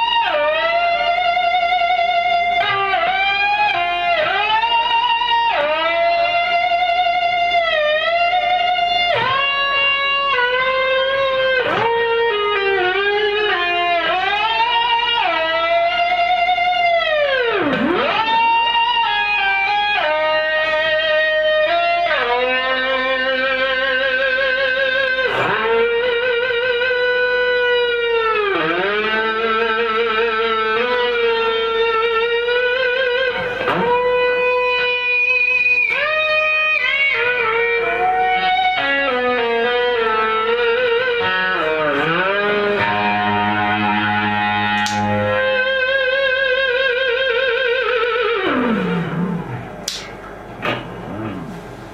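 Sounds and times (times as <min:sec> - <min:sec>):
electric guitar lead with vibrato: 0:00.0 - 0:51.9.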